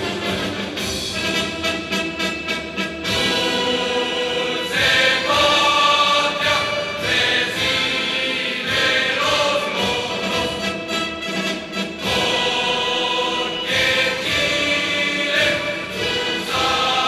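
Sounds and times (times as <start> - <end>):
choir singing: 0.0 - 2.2, 2.8 - 17.0
orchestral accompaniment: 0.0 - 17.0.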